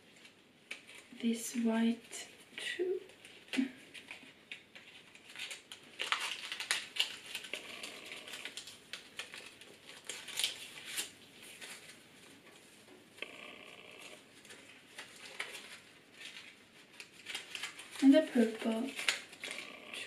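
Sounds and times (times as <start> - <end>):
paper rustling and crinkling: 0.0 - 1.2, 2.3 - 13.2, 14.1 - 20.0.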